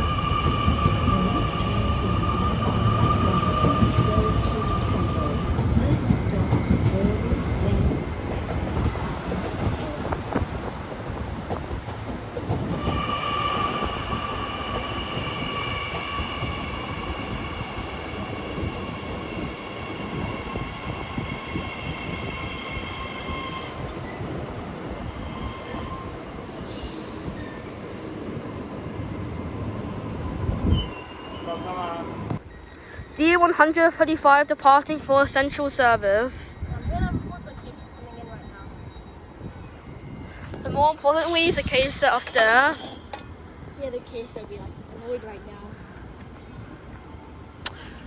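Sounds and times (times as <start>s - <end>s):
train rumbling past: 0.0s - 47.6s.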